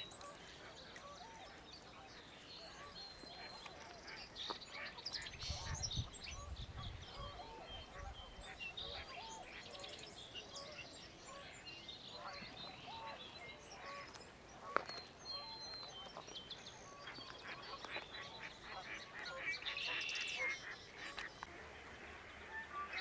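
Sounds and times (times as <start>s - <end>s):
birds calling: 0.0s - 21.5s.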